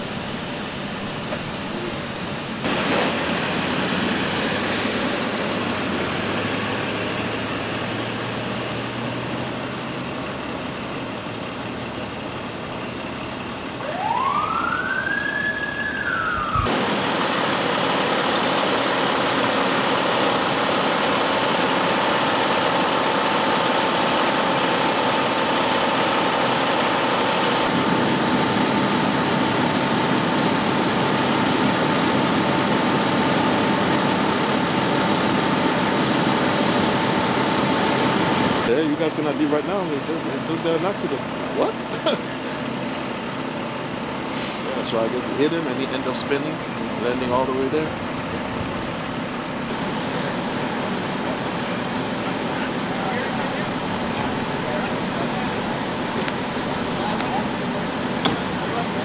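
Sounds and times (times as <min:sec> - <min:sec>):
emergency vehicle siren: 0:00.0 - 0:59.0
vehicle engine drone: 0:00.0 - 0:59.0.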